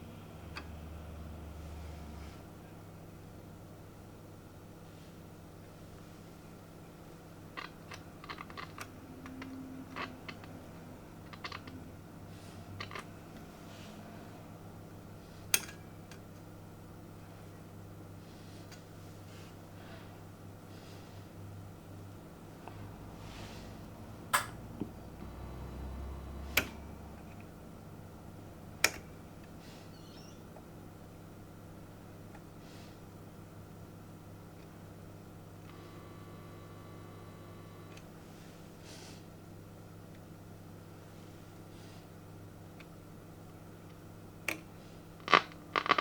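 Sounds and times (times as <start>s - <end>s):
low mains hum: 0.0s - 46.0s.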